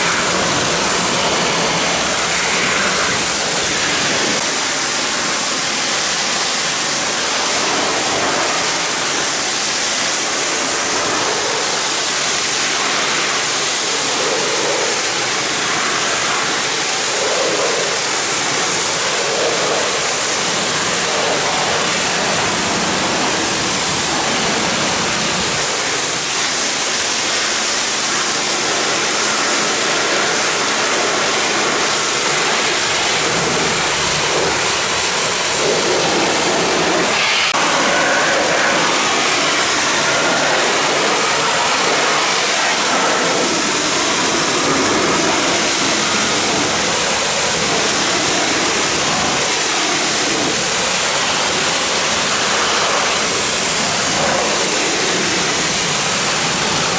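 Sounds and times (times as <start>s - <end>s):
pressure washer spraying water: 0.0s - 56.9s.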